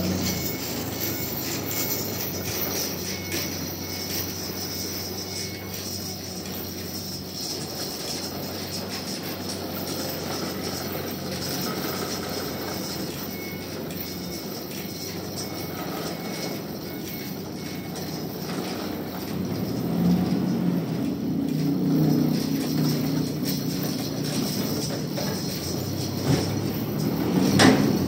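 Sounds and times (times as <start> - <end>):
sawmill machinery rumbling: 0.0 - 28.0.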